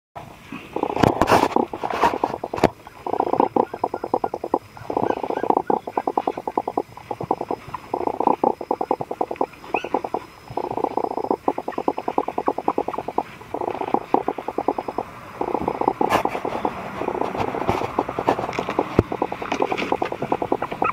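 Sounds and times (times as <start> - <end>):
puppies making rhythmic breath sounds: 0.4 - 20.9.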